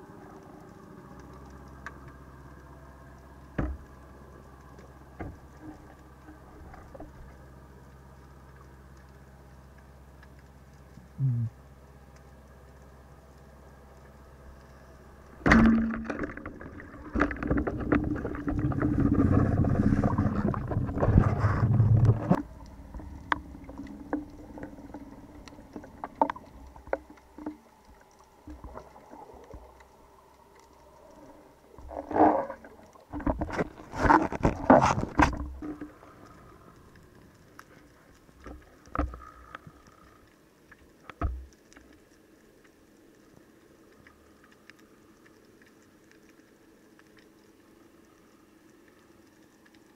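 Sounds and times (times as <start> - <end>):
underwater rushing and churning: 0.0 - 49.9.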